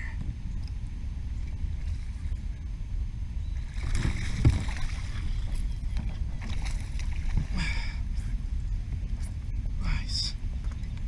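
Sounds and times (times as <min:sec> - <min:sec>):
steady low rumble: 0:00.0 - 0:11.0
water splashing and sloshing: 0:00.2 - 0:02.6, 0:03.6 - 0:11.0.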